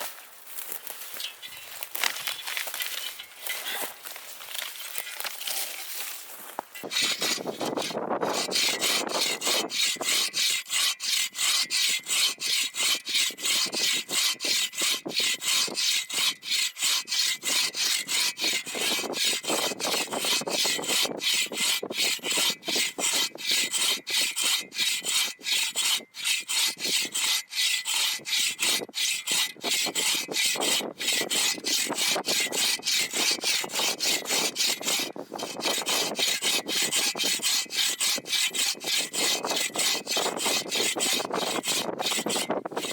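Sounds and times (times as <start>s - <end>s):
hand saw cutting wood: 0.0s - 42.9s.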